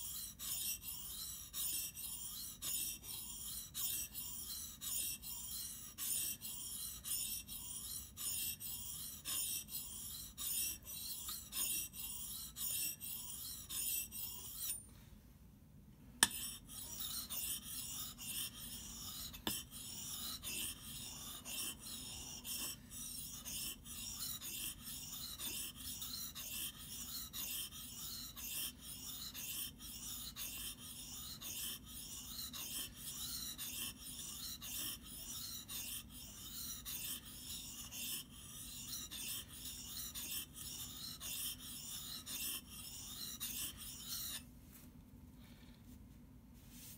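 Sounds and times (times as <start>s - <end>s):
blade grinding on whetstone: 0.0s - 14.8s, 16.2s - 44.4s.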